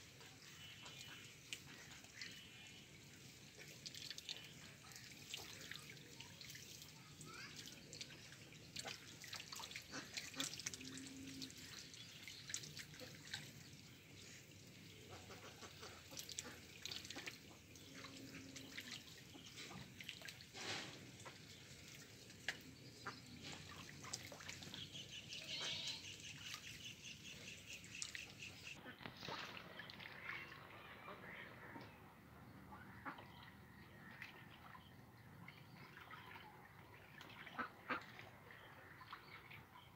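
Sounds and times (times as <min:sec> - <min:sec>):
ducks dabbling in water: 0:00.1 - 0:39.9.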